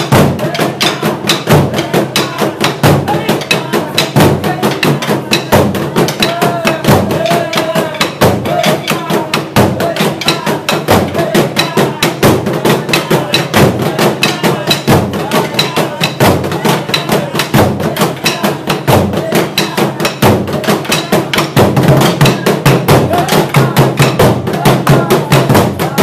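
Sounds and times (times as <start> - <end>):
drum ensemble beating fast rhythm: 0.0 - 26.0.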